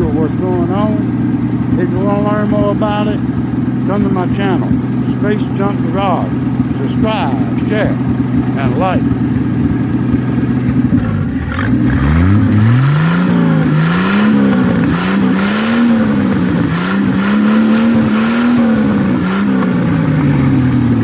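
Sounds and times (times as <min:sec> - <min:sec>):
bulldozer engine revving: 0:00.0 - 0:21.0.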